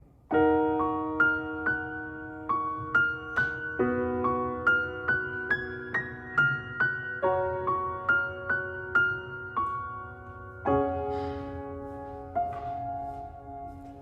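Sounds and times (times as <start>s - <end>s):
piano notes ringing: 0.2s - 14.0s.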